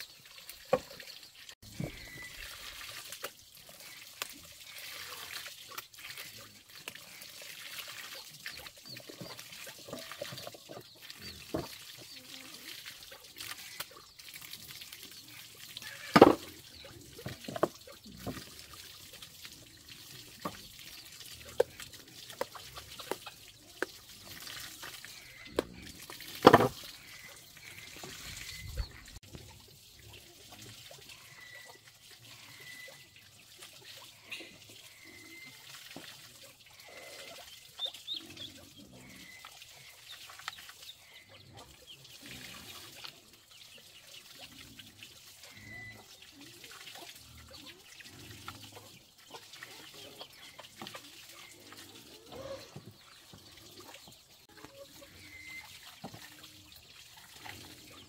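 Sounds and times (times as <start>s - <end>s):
water splashing and dripping: 0.0s - 58.0s.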